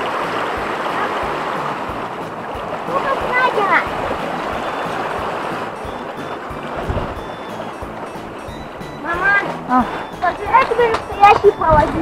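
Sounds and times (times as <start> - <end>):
mountain stream rushing: 0.0 - 12.0
wind buffeting microphone: 0.0 - 12.0.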